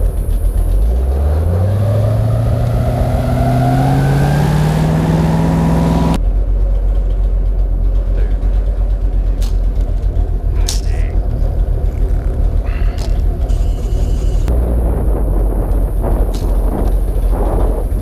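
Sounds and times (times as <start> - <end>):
boat motor speeding up: 0.0 - 18.0
low rumble: 0.0 - 18.0.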